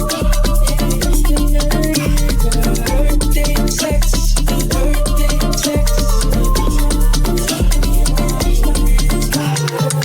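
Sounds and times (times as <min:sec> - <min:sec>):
dance music with deep bass: 0:00.0 - 0:10.0.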